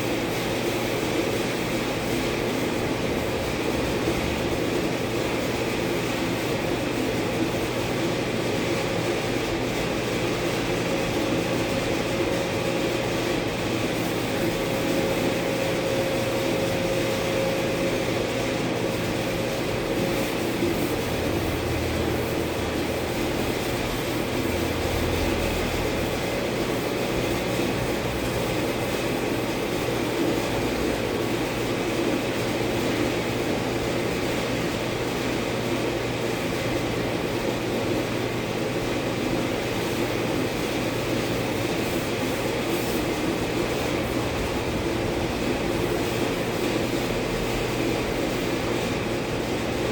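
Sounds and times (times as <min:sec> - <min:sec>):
mechanical hum and hiss: 0:00.0 - 0:49.9.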